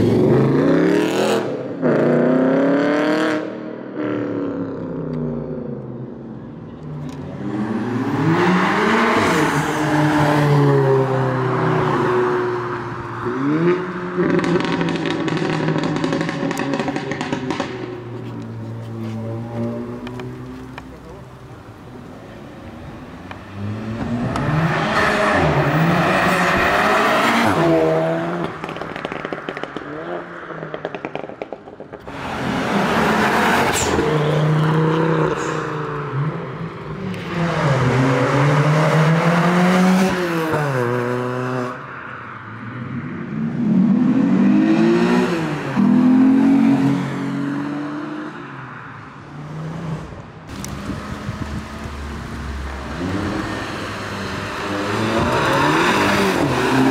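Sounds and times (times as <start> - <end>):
cars accelerating hard: 0.0 - 5.6, 6.8 - 22.0, 22.9 - 56.9.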